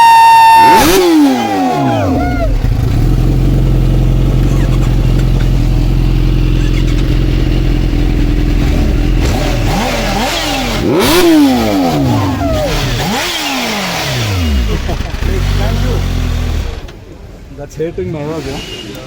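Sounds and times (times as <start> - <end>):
motorcycle engine idling and revving: 0.0 - 17.4.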